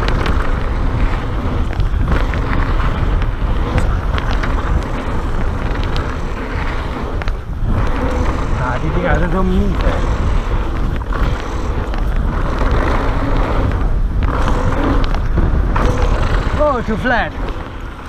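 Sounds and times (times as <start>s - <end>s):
bike rattling: 0.0s - 18.0s
tyres crunching on gravel: 0.0s - 18.0s
wind rumble on microphone: 0.0s - 18.0s.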